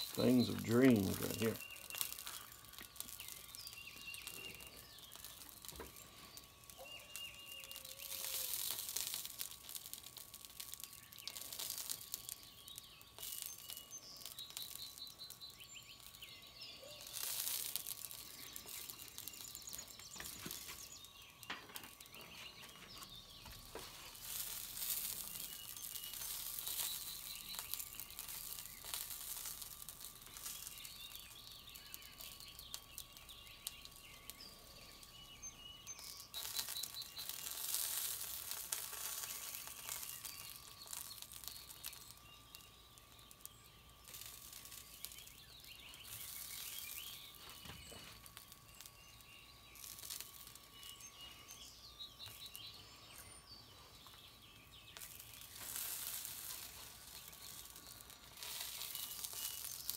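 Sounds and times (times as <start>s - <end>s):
birds chirping: 0.0s - 59.9s
sauce hissing and crinkling: 0.0s - 59.9s.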